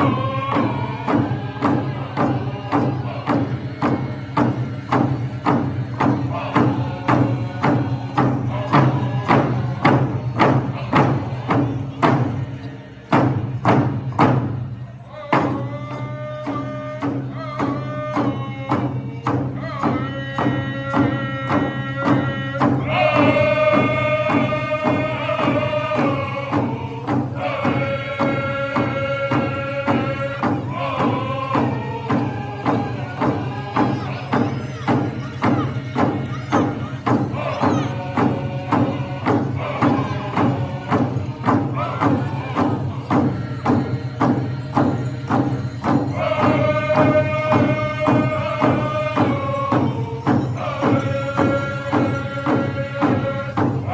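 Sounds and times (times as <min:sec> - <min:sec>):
chanted singing: 0:00.0 - 0:13.9, 0:14.9 - 0:53.9
large drum beating: 0:00.0 - 0:14.7, 0:16.4 - 0:53.9.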